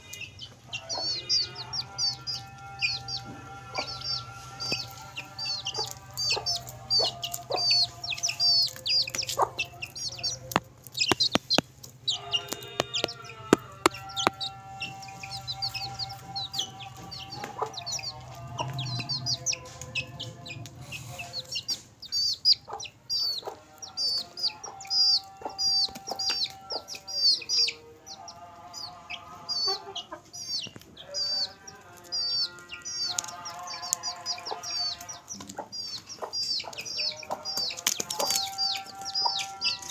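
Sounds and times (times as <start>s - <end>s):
beaks pecking at paper: 0.0s - 22.3s, 23.1s - 28.3s, 29.6s - 39.9s
chicks peeping: 0.0s - 39.9s
hens clucking: 0.0s - 39.9s.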